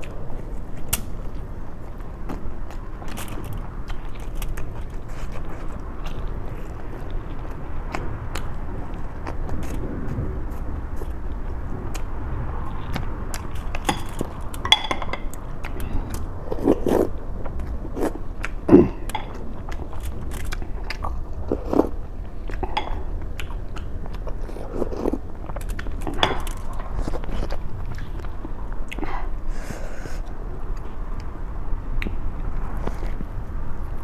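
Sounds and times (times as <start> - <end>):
person chewing crunchy food: 0.0 - 31.0.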